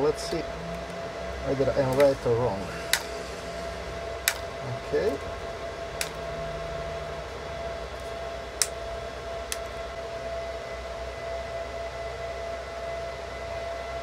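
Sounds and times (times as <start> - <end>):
low hum: 0.0 - 14.0
steady whine: 0.0 - 14.0.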